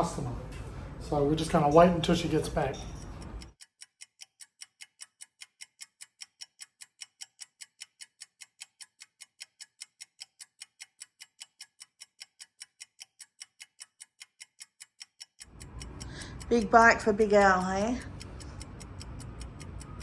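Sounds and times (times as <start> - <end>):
clock ticking: 1.4 - 20.0.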